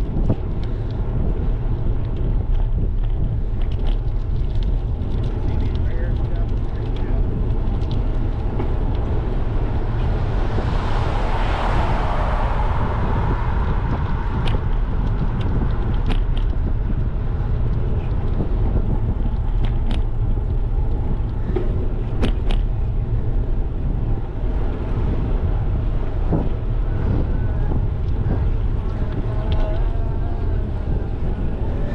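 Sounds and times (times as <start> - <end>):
wind buffeting microphone: 0.0 - 31.9
car passing: 0.7 - 31.9.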